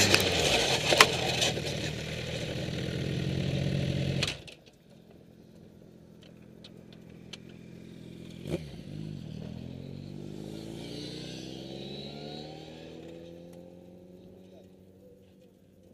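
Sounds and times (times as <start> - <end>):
distant motorcycle accelerating: 0.0 - 15.9.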